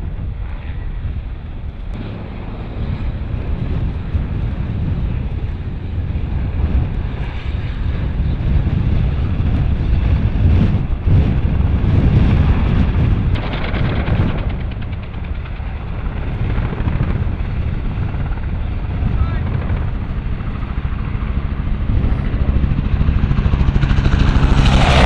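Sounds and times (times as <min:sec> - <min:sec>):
wind rumbling on microphone: 0:00.0 - 0:25.0
helicopter rotor thumping: 0:00.1 - 0:25.0.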